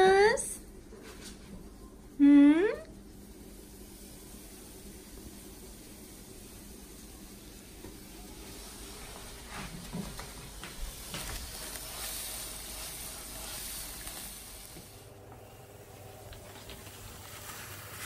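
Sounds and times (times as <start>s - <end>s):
sandwiches sizzling in a frying pan: 2.2s - 18.0s.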